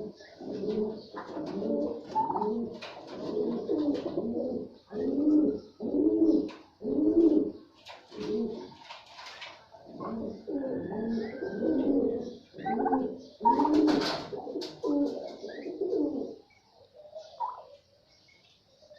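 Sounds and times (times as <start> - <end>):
pigeons cooing: 0.0 - 17.9.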